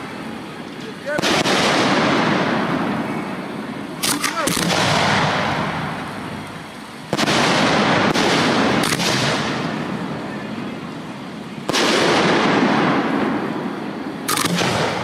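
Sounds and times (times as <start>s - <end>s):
fireworks bursting with rumble: 0.0s - 15.0s.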